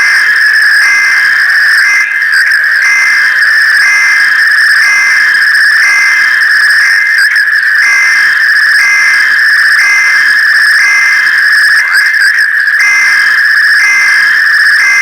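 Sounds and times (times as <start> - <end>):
emergency alert tone: 0.0 - 15.0.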